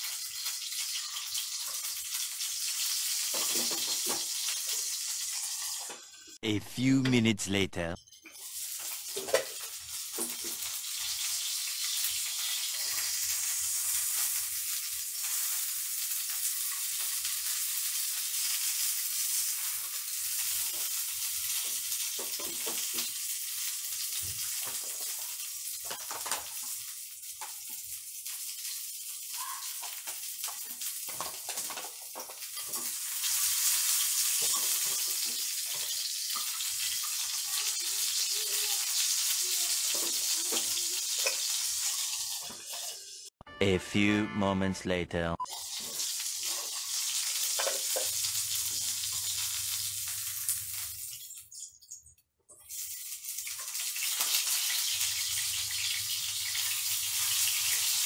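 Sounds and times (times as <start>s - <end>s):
chicken sizzling in a pan: 0.0s - 6.4s, 8.2s - 43.3s, 45.5s - 58.0s.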